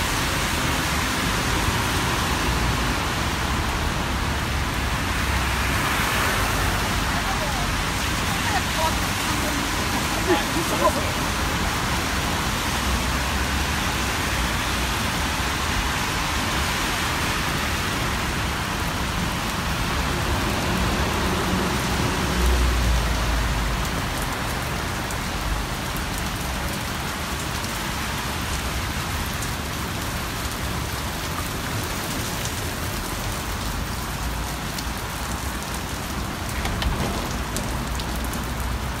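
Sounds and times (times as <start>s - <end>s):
heavy rain on pavement: 0.0s - 39.0s.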